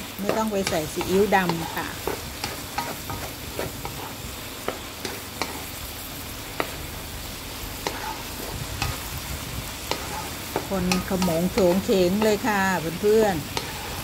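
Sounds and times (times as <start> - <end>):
meat sizzling in a wok: 0.0 - 14.0
wooden spatula scraping a pan: 0.3 - 5.8, 7.8 - 14.0.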